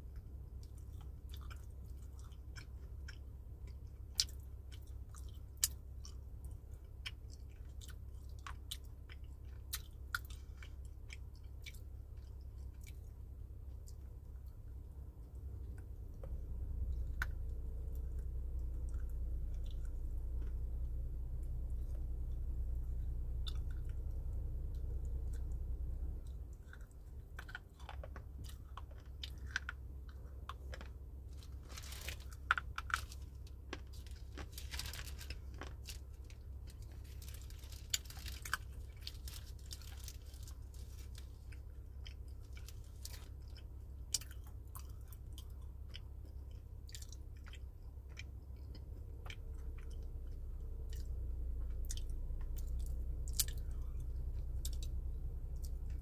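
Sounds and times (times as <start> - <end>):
chewing crunchy dried fruit: 0.0 - 56.0
steady low hum: 0.0 - 56.0.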